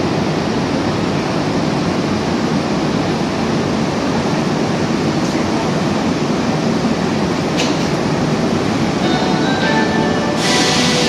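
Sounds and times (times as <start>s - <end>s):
electric train idling hum: 0.0s - 11.0s
ventilation noise: 0.0s - 11.0s.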